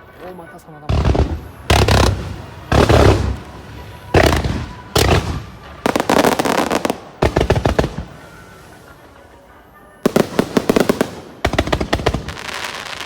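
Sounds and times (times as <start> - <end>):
fireworks crackling: 0.0 - 13.0
fireworks booming: 0.9 - 9.2, 10.0 - 13.0.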